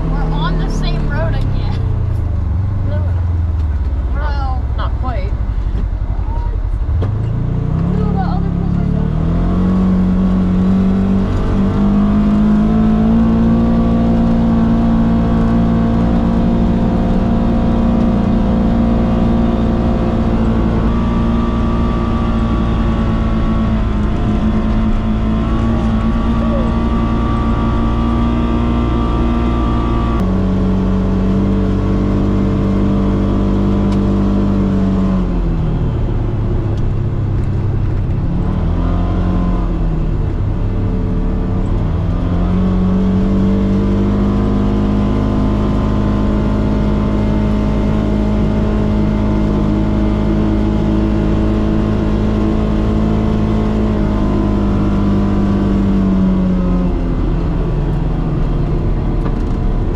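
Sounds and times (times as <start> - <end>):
vehicle engine revving: 0.0 - 59.9.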